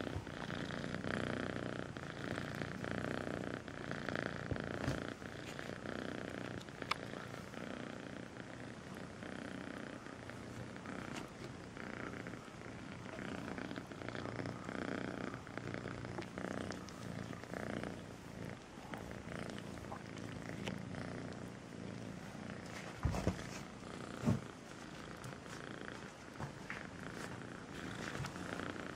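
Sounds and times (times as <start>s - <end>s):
kitten purring: 0.0s - 28.9s.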